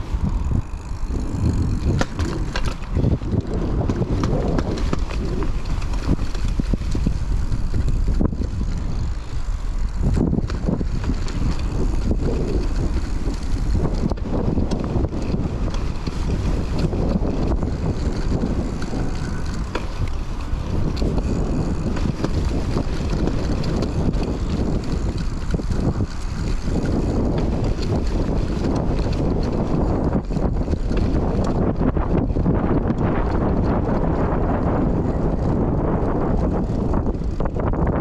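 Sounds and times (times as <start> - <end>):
tyre rumble: 0.0 - 32.1
bike rattles and ticks: 0.0 - 38.0
wind buffeting microphone: 0.0 - 38.0.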